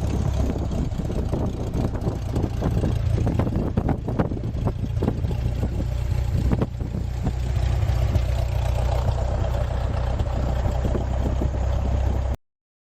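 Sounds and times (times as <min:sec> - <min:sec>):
propeller plane engine running: 0:00.0 - 0:12.4.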